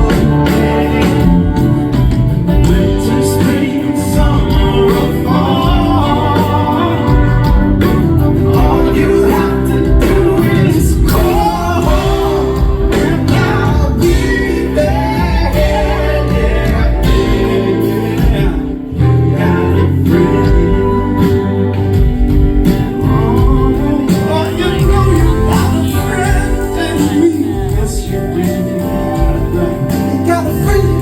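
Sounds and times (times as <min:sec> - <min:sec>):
live band with singing: 0:00.0 - 0:31.0.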